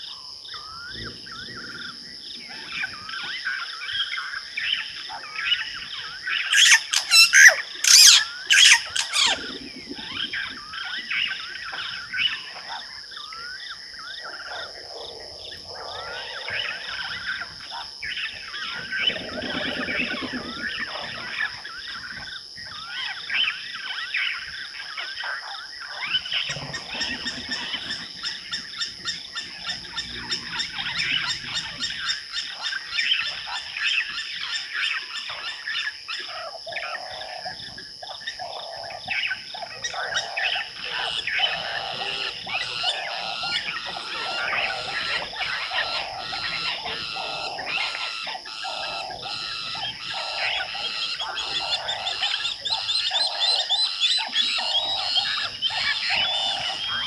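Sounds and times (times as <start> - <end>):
frogs chirping: 0.0 - 57.0
high-pitched insect drone: 0.0 - 57.0.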